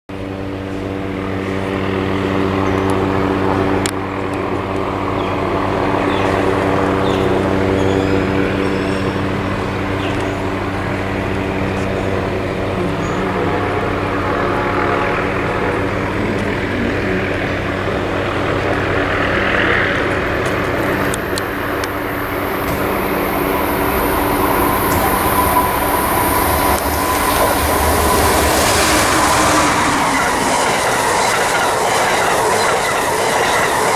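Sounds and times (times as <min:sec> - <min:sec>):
electric locomotive hum: 0:00.1 - 0:33.9
train wheels rushing on rail: 0:00.2 - 0:33.9.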